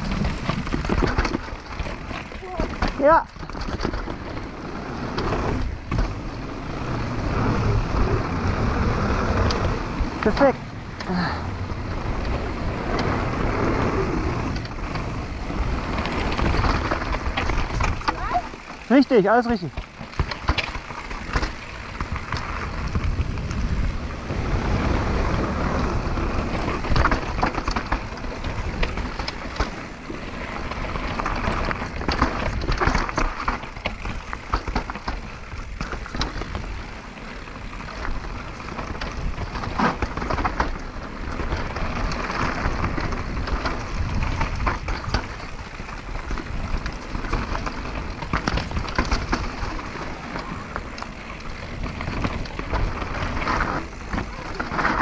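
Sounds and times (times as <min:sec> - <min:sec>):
bike rattling and knocking: 0:00.0 - 0:55.0
bike tyres crunching on gravel: 0:00.0 - 0:55.0
wind rumbling on microphone: 0:00.0 - 0:55.0.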